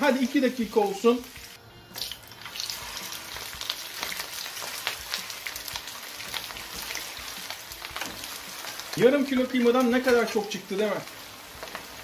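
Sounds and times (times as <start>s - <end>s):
meatballs sizzling in oil: 0.0s - 12.0s.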